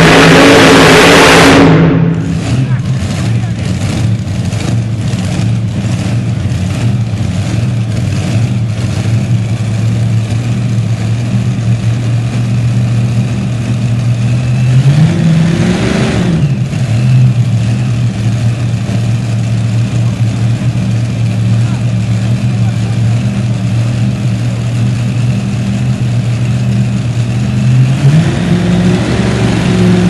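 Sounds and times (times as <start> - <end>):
engine rev: 0.0 - 30.0
tractor engines idling: 0.0 - 30.0.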